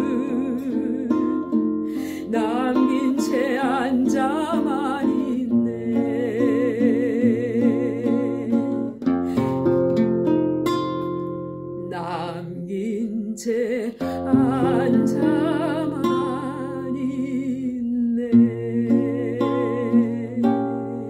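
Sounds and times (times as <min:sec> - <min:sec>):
woman singing a slow ballad: 0:00.0 - 0:09.7, 0:11.8 - 0:21.0
plucked classical guitar: 0:00.0 - 0:21.0.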